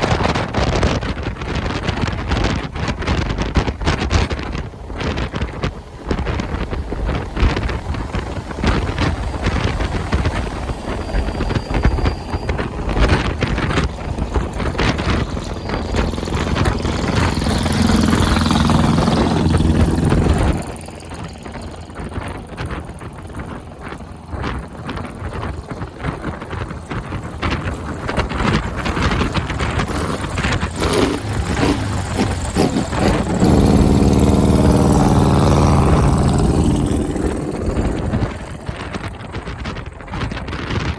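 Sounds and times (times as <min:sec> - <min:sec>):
vehicle engine running: 0:00.0 - 0:40.9
wind buffeting microphone: 0:00.0 - 0:40.9.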